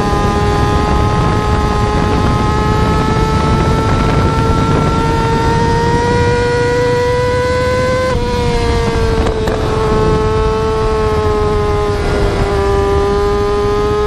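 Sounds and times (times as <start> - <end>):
motorcycle engine at high revs: 0.0 - 14.0
road noise: 0.0 - 14.0.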